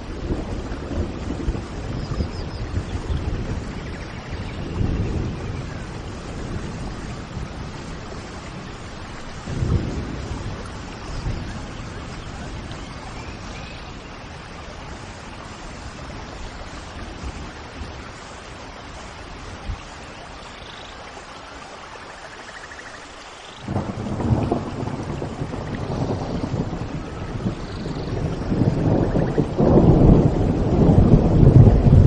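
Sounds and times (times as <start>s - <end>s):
thunder rolling rumble: 0.0s - 20.0s, 23.6s - 32.0s
steady rain falling: 0.0s - 32.0s.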